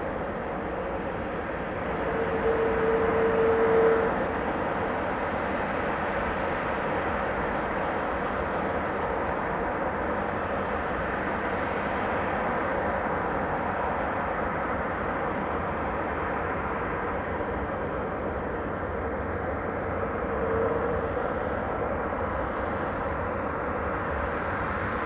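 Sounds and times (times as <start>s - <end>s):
jet airliner engines rushing: 0.0s - 25.0s.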